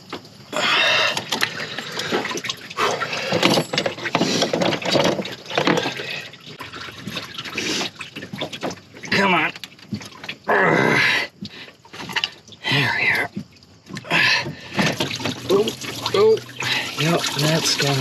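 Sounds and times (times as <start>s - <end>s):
coolant pouring into drain pan: 0.6s - 10.5s, 11.2s - 18.0s.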